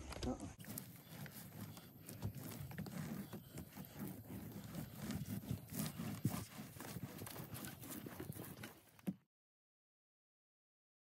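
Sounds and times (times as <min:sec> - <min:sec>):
paint roller scrubbing: 0:00.0 - 0:09.2.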